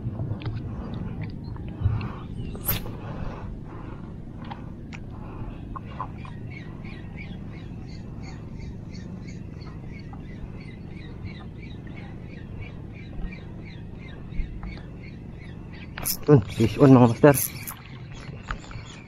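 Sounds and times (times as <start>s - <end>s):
water at shoreline: 0.0s - 19.0s
wind: 0.0s - 19.0s.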